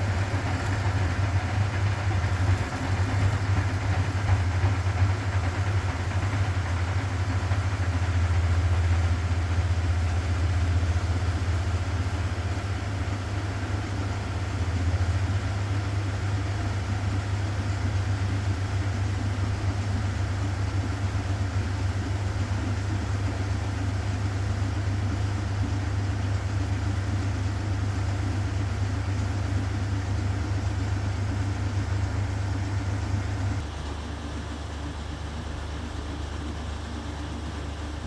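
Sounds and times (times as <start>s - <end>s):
washing machine humming and rumbling: 0.0s - 38.0s.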